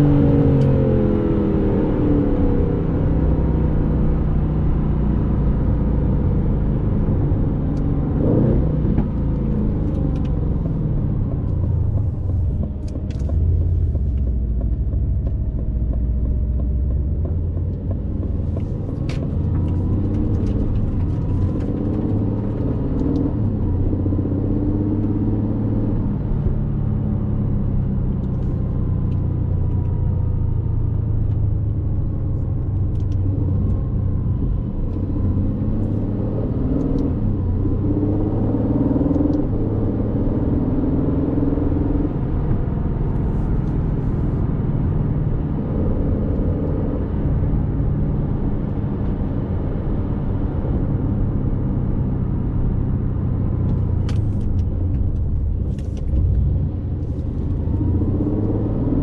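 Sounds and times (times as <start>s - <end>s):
car engine revving while driving: 0.0s - 59.0s.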